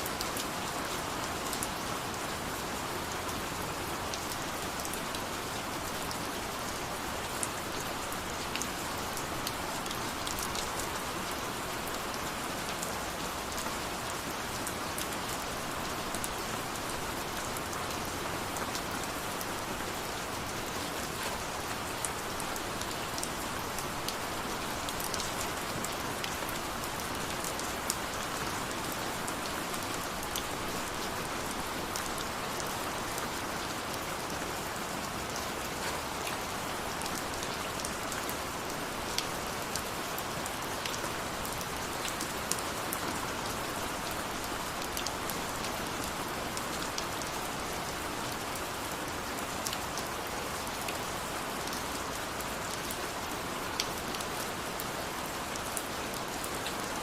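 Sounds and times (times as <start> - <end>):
rain drops ticking on a surface: 0.0 - 57.0.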